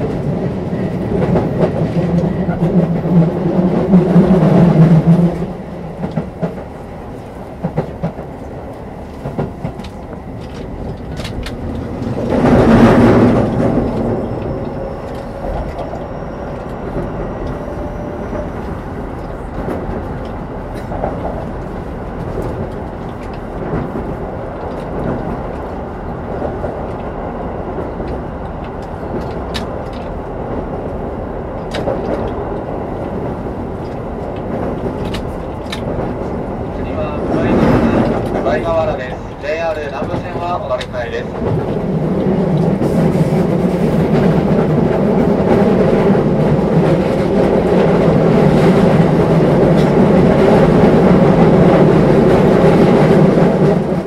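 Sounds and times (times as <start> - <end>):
wheels rumbling on track: 0.0 - 54.0.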